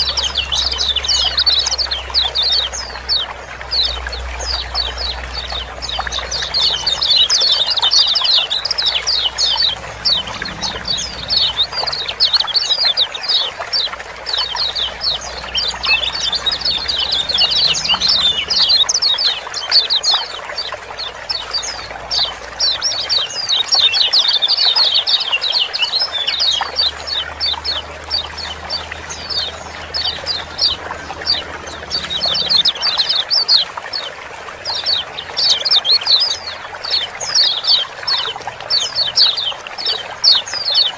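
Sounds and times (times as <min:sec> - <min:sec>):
birds chirping: 0:00.0 - 0:40.9
running water: 0:00.0 - 0:40.9.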